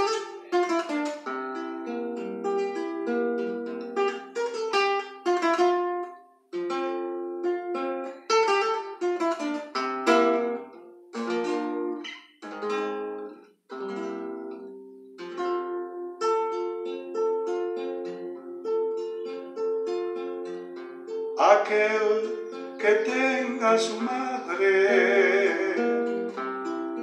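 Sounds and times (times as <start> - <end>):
classical guitar playing: 0.0 - 27.0.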